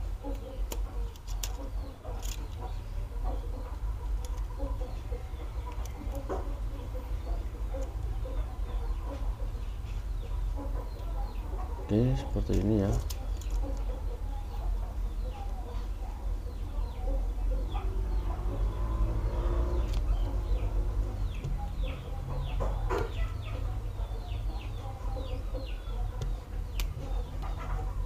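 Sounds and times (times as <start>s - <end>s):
chickens chirping and clucking: 0.0s - 28.0s.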